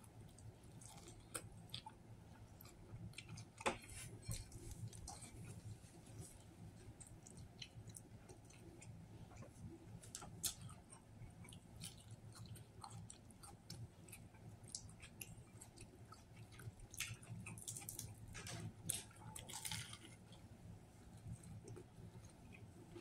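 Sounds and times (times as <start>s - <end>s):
man chewing a sandwich: 0.0s - 23.0s.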